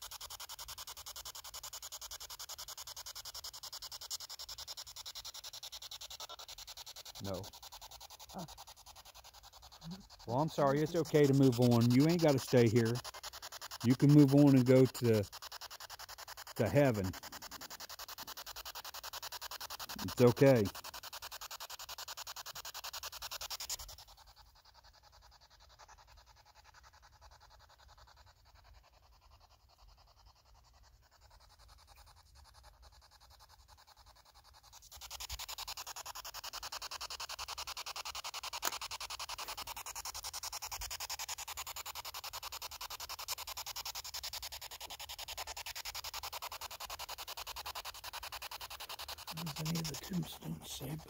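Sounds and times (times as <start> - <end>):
rough hiss: 0.0 - 29.1, 29.8 - 51.0.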